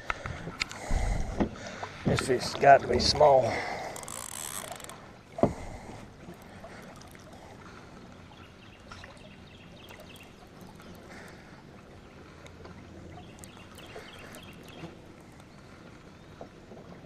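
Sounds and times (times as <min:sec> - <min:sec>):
river ambience: 0:00.0 - 0:17.0.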